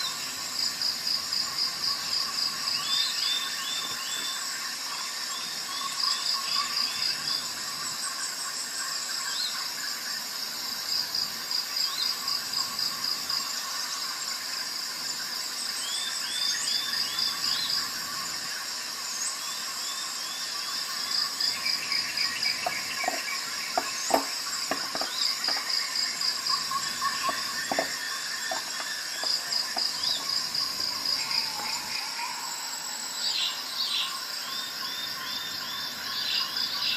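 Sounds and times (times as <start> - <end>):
crickets trilling: 0.0 - 36.9.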